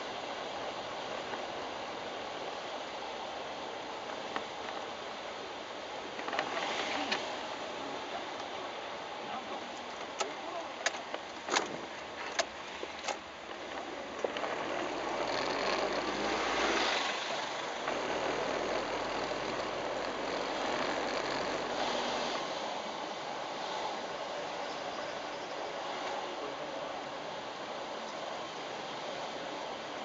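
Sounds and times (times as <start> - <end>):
road vehicle engine and tyres: 0.0 - 30.0.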